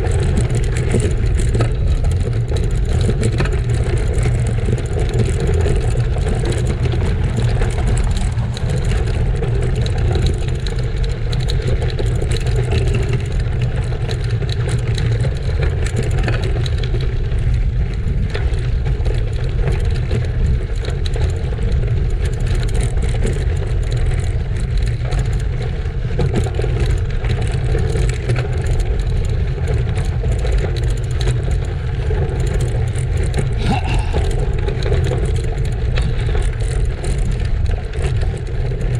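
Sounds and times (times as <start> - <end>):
bicycle tyres rolling over gravel: 0.0 - 33.6, 34.3 - 38.9
bike clicks and rattles: 0.0 - 38.9
wind rumble on microphone: 0.0 - 38.9.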